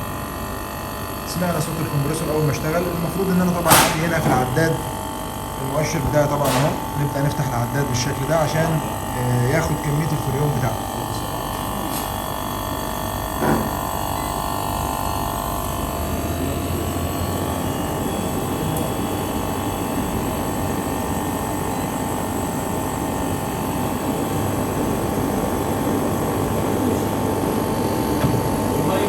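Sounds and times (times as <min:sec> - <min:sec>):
air conditioner hum and whir: 0:00.0 - 0:29.0.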